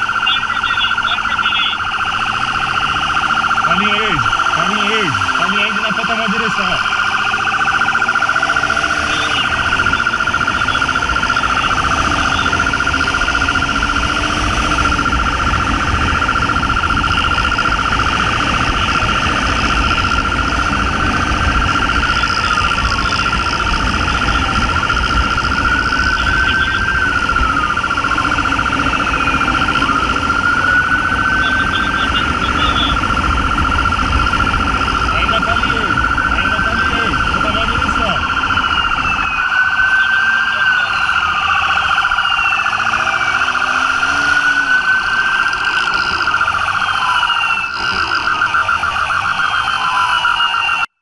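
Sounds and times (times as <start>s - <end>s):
motorcycle riding at speed: 0.0s - 50.9s
fluttering electronic siren: 0.0s - 51.0s
wailing siren: 0.0s - 51.0s.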